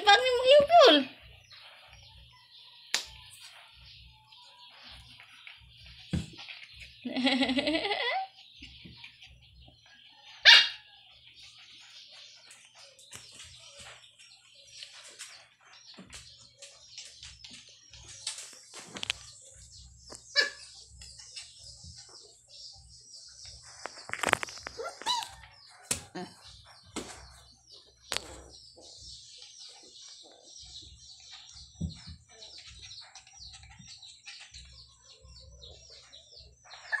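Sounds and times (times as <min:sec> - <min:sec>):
puppies scuffling on tiles: 0:00.0 - 0:07.6, 0:11.0 - 0:37.0
small birds chirping: 0:00.0 - 0:37.0.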